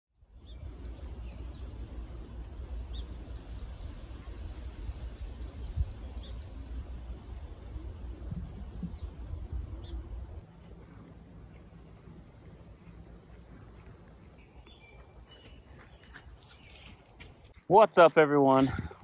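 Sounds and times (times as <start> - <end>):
small birds chirping: 0.2 - 17.6
steady low rumble: 0.2 - 17.6.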